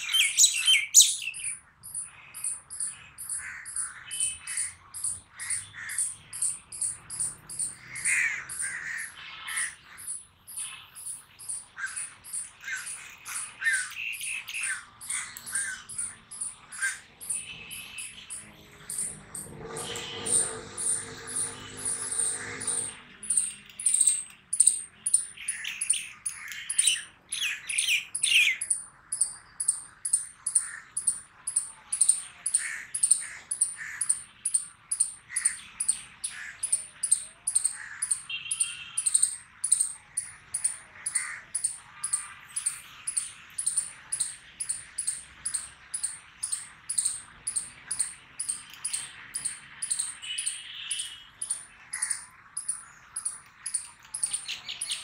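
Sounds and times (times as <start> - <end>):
squirrel chirping: 0.0 - 55.0.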